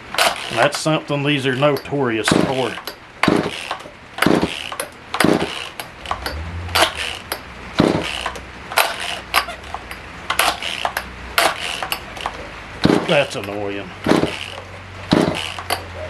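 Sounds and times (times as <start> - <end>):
chainsaw starter rope ratcheting: 0.0 - 16.0.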